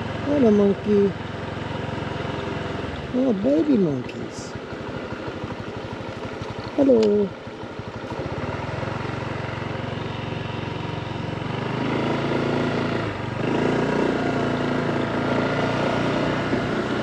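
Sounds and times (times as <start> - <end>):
scooter engine idling and revving: 0.0 - 17.0.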